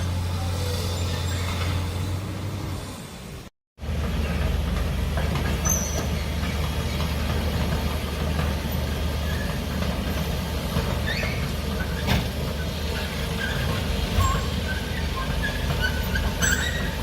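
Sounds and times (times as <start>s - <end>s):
excavator diesel engine droning: 0.0s - 17.0s.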